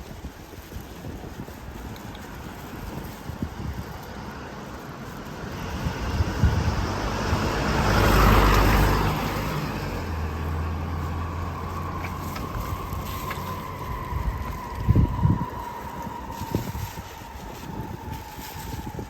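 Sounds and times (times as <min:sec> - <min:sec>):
road vehicle passing: 0:02.2 - 0:19.0.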